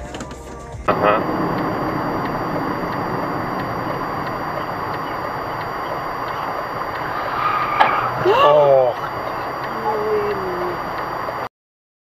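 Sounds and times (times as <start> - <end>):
car road noise: 0.9 - 11.5.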